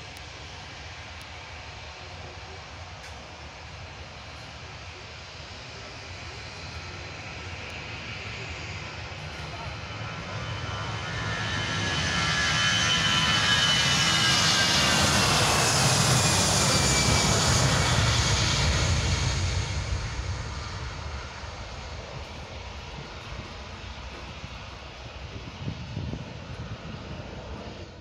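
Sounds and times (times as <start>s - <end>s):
jet engine roar: 0.0s - 28.0s.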